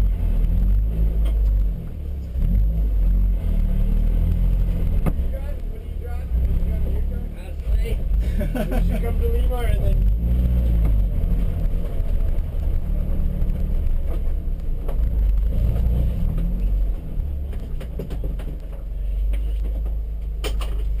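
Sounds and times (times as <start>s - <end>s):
car engine rumbling: 0.0s - 21.0s.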